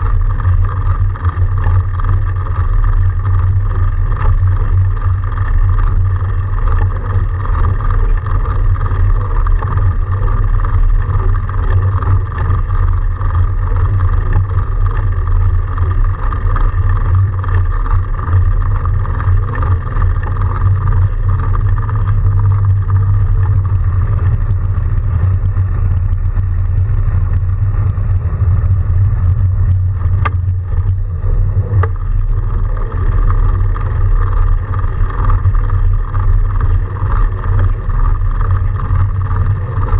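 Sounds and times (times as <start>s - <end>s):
bike riding through snow: 0.0s - 39.9s
wind on microphone: 0.0s - 39.9s.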